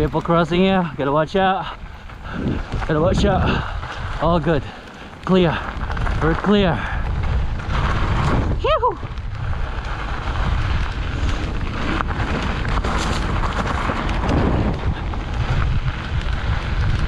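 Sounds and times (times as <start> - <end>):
bike clicks and rattles: 0.0 - 17.0
wind buffeting microphone: 0.0 - 17.0.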